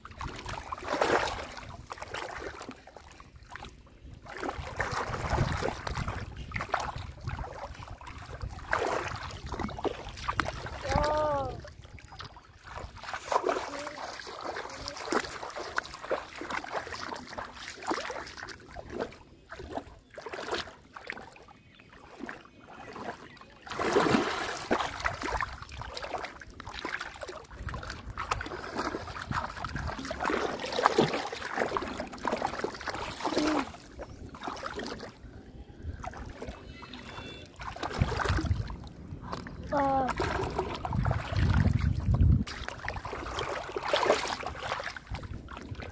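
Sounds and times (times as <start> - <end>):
muddy water splashing and sloshing: 0.0 - 45.9.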